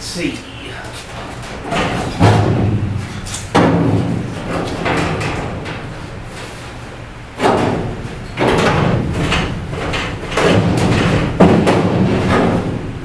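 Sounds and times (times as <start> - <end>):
sheet metal banging and rumbling: 0.5 - 13.0.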